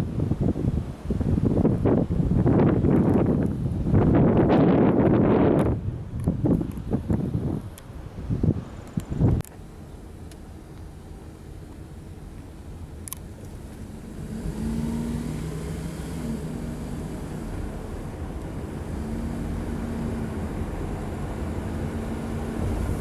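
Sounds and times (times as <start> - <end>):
wind rumbling on microphone: 0.0 - 9.6, 10.8 - 23.0.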